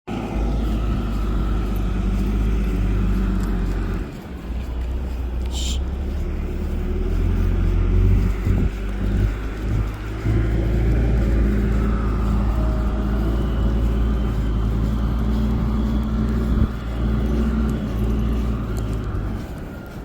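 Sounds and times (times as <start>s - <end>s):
tractor engine rumbling: 0.0s - 20.0s.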